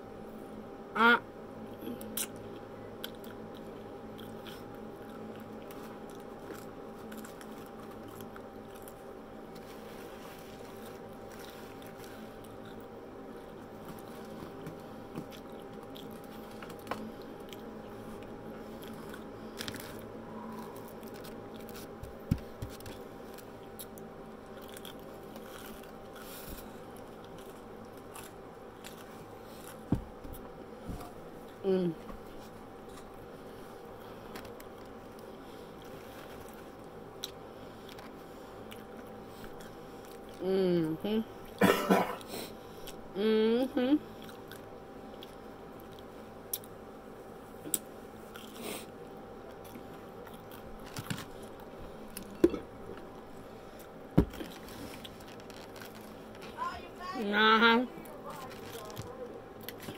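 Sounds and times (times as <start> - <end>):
faint steady hum: 0.0 - 59.9
chewing and crunching fried food: 1.6 - 31.6, 32.2 - 41.6, 42.2 - 43.2, 44.0 - 57.2, 57.8 - 59.9.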